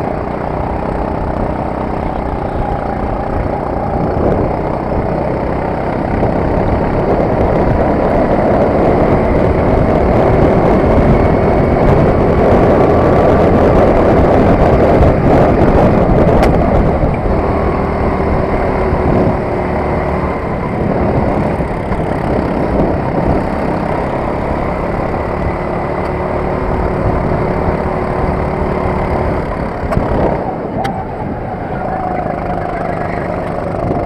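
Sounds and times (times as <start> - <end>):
kart engine running hard: 0.0 - 34.0.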